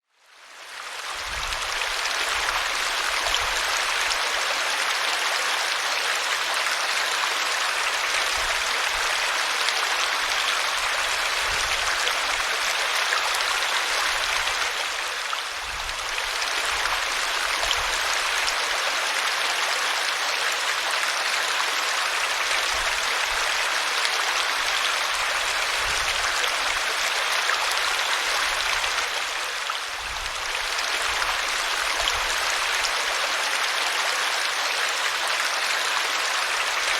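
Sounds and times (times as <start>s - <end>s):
small waterfall rushing: 0.0s - 36.9s.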